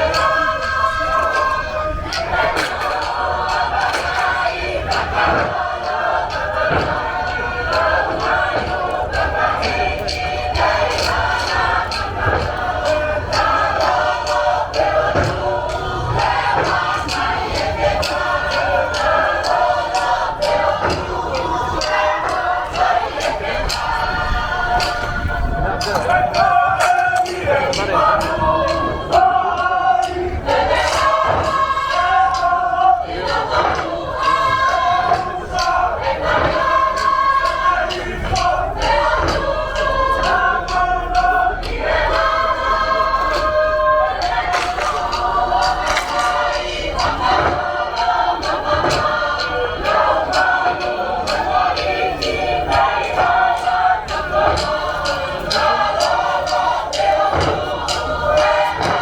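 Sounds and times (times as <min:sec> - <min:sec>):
choir singing chant-like phrases: 0:00.0 - 0:59.0
sharp percussive strikes: 0:00.0 - 0:59.0.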